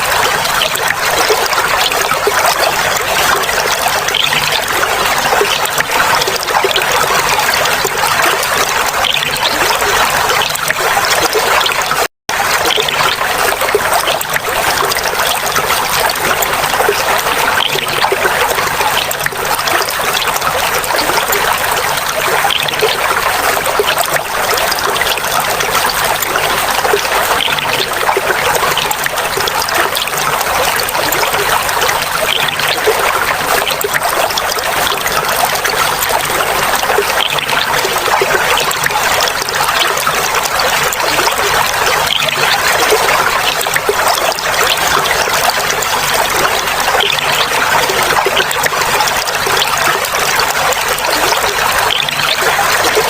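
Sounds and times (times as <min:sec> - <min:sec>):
water trickling and babbling: 0:00.0 - 0:53.0.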